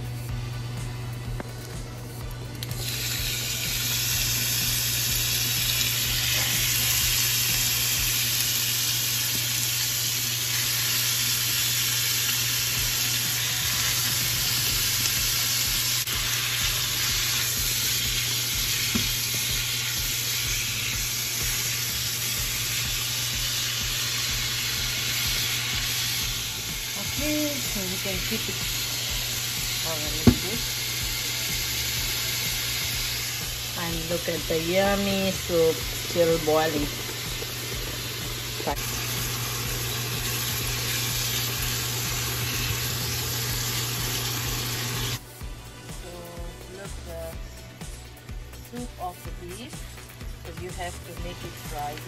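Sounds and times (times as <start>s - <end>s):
beef sizzling in hot oil: 2.7s - 45.2s.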